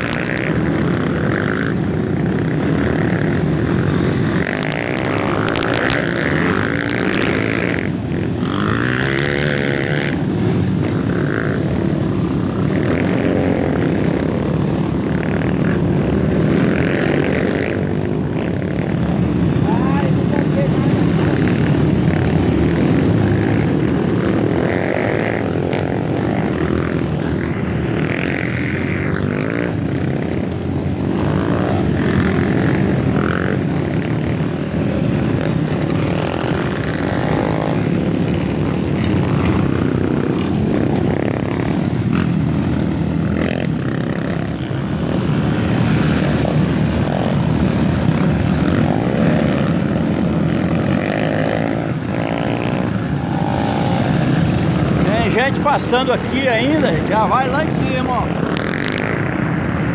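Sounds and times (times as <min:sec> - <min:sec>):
dirt bike engines passing: 0:00.0 - 0:59.9.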